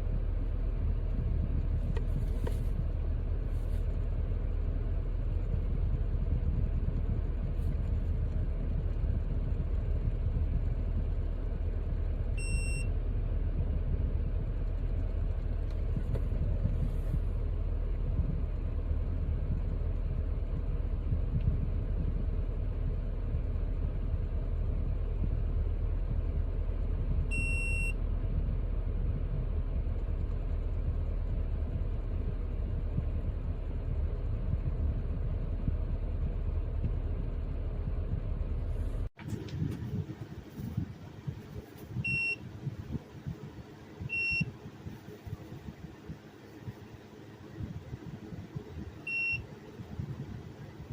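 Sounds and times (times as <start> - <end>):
car cabin rumble: 0.0 - 50.9.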